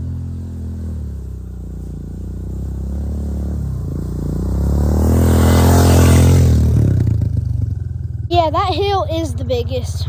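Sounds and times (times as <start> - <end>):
dirt bike engine pulling uphill: 0.0 - 10.0.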